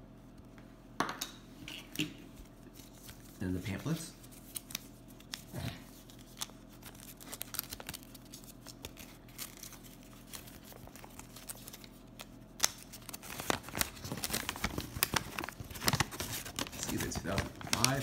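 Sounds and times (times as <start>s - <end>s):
paper rustling and crinkling: 2.4s - 18.0s.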